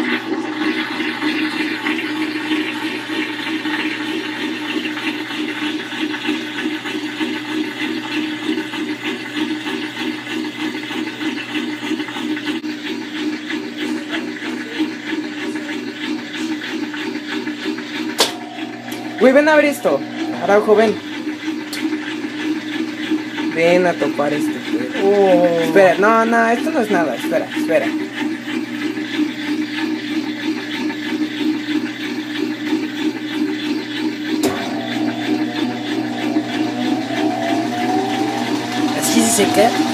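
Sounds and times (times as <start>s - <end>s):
washing machine pulsing hum: 0.0s - 39.9s
washing machine water rushing: 0.0s - 39.9s.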